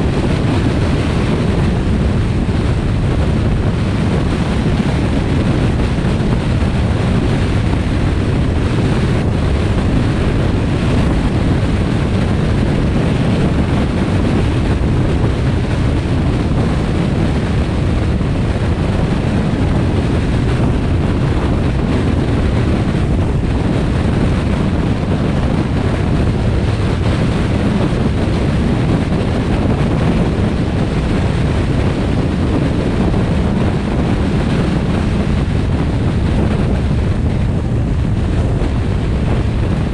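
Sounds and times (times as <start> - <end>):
car tyre and road noise: 0.0 - 39.9
wind rush on microphone: 0.0 - 39.9.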